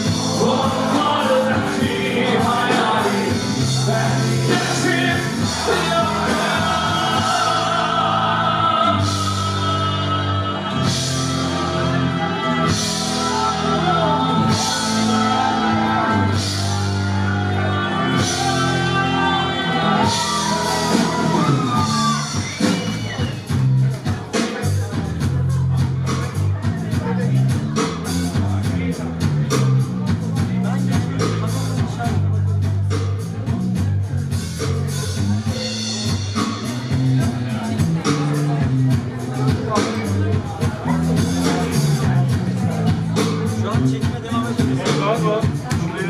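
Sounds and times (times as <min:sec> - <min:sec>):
sustained bass notes: 0:00.0 - 0:46.0.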